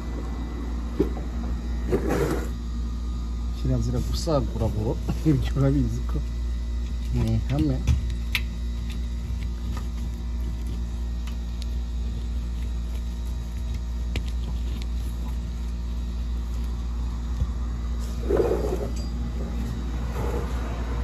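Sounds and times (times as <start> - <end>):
low motor rumble: 0.0 - 21.0.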